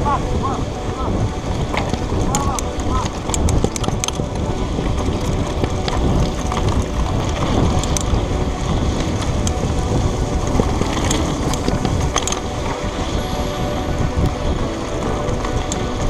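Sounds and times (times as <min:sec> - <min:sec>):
wind buffeting microphone: 0:00.0 - 0:16.0
bike clicks and rattles: 0:01.3 - 0:13.2, 0:14.1 - 0:16.0.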